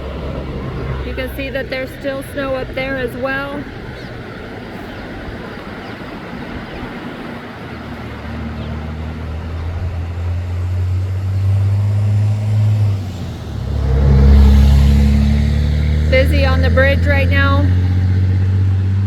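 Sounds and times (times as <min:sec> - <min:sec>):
hiss of passing traffic: 0:00.0 - 0:19.0
vehicle engine hum: 0:00.0 - 0:19.0.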